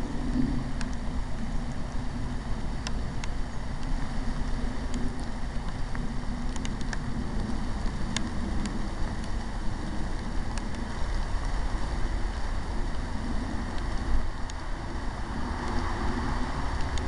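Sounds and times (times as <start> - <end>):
rain and wind on microphone: 0.0 - 17.0
raindrop ticks: 0.0 - 17.0.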